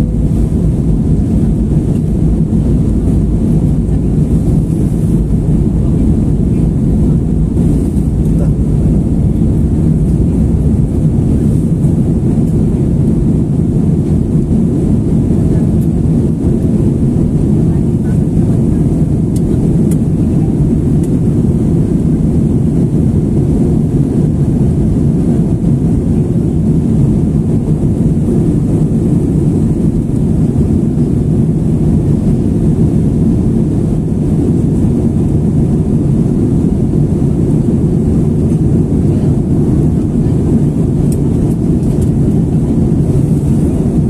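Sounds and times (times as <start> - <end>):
jet engines roaring in cabin: 0.0 - 44.0.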